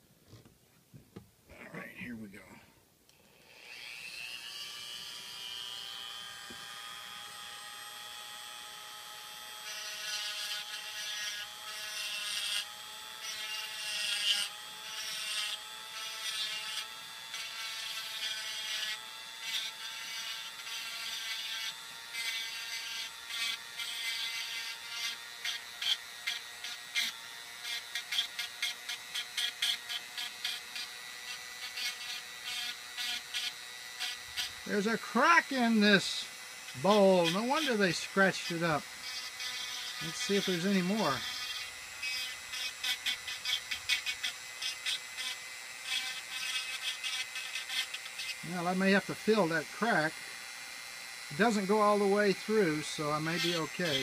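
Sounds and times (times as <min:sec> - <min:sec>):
rotary tool whining: 0:03.1 - 0:54.0
bit grinding into wood: 0:03.3 - 0:54.0.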